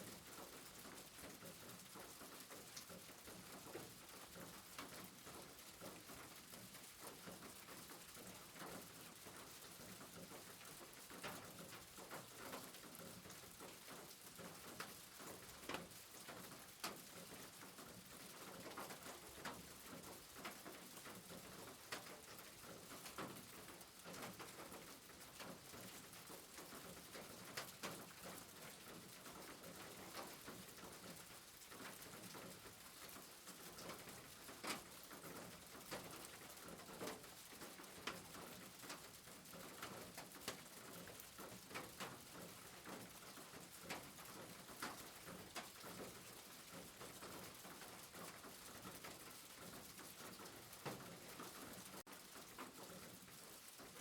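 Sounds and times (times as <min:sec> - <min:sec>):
raindrops dripping: 0:00.1 - 0:54.0.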